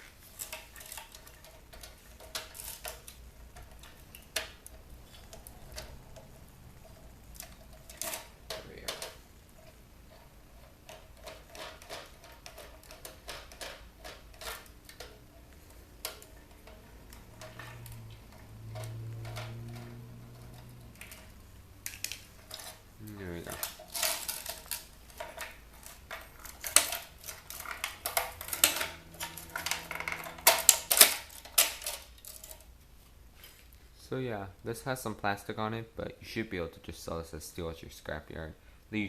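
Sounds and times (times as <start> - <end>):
clicks and clinks of parts handled: 0.2 - 32.7.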